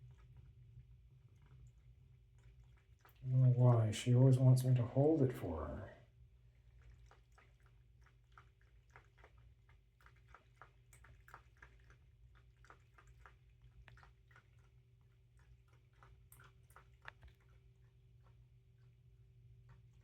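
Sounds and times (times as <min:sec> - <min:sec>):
cat lapping water: 0:00.0 - 0:20.0.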